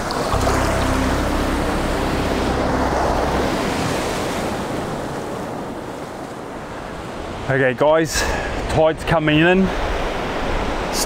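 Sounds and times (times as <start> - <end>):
surf washing over sand: 0.0 - 11.0.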